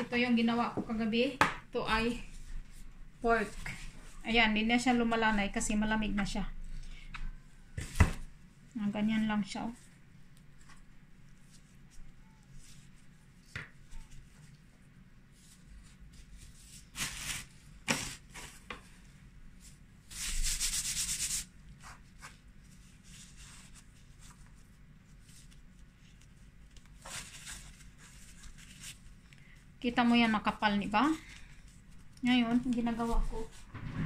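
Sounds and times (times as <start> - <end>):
soft rubbing and scraping of dough: 0.0 - 34.0.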